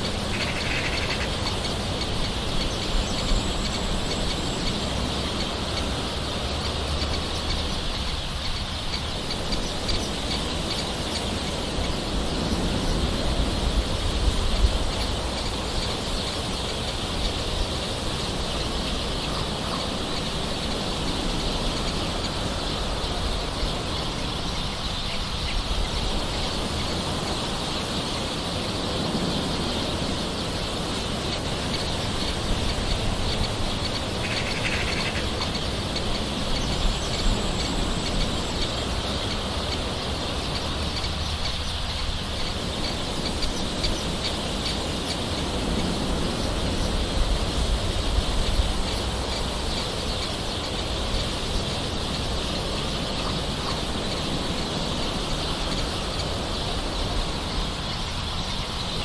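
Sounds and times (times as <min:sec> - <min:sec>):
bird calls: 0:00.0 - 0:59.0
soft rain hiss: 0:00.0 - 0:59.0.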